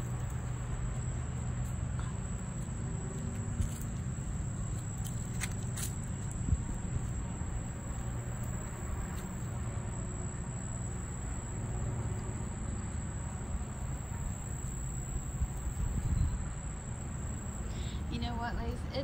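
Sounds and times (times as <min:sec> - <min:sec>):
insects trilling: 0:00.0 - 0:19.0
low steady rumble: 0:00.0 - 0:19.0.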